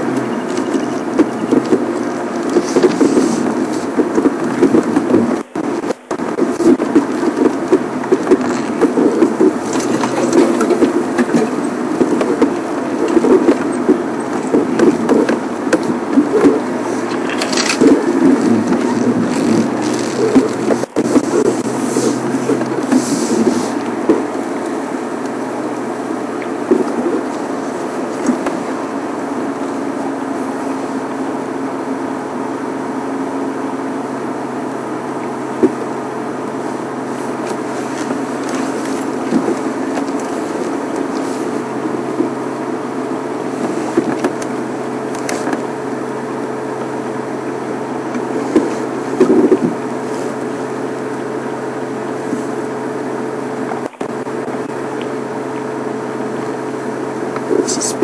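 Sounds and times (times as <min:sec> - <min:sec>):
steady mechanical hum: 0:00.0 - 0:58.0
vehicle engine idling: 0:00.0 - 0:58.0.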